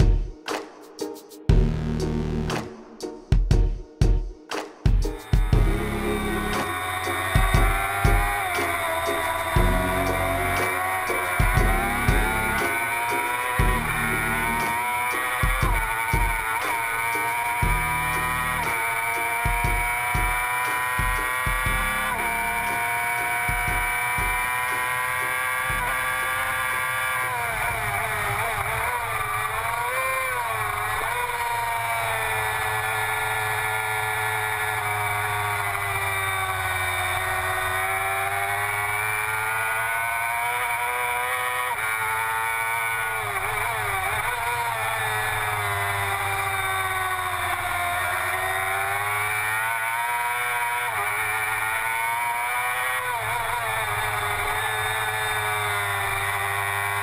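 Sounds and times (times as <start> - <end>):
race car engine revving: 5.2 - 57.0
wind and road noise: 5.5 - 57.0.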